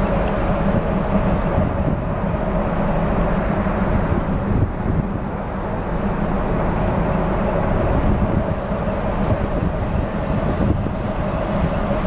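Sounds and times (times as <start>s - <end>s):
ship engines droning: 0.0s - 12.0s
ventilation steady tone: 0.0s - 12.0s.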